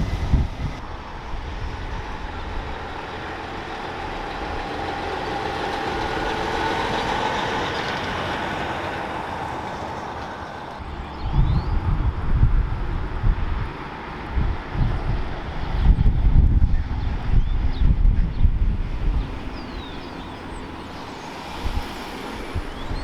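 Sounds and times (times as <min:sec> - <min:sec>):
heavy truck passing by: 0:00.0 - 0:23.0.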